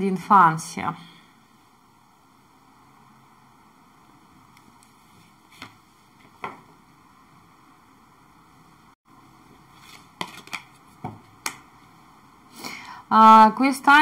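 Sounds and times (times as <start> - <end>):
low hiss of room tone: 0.0 - 14.0.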